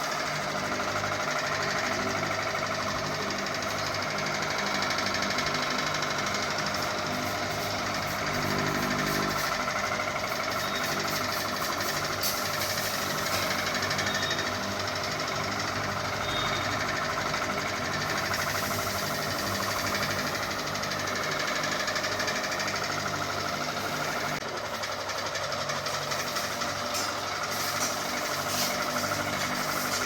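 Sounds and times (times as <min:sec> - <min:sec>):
ceiling fan rattling: 0:00.0 - 0:30.0.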